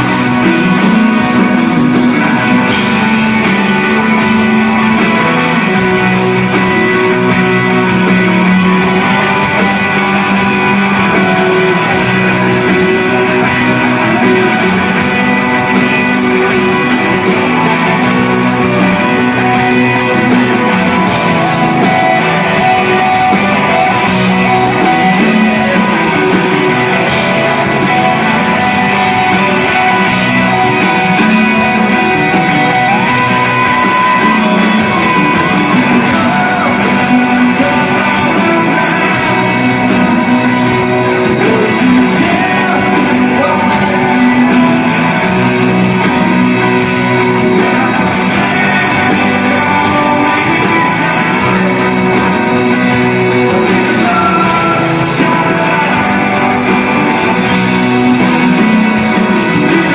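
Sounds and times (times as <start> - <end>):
electric guitars: 0.0 - 59.9
live rock band playing: 0.0 - 59.9.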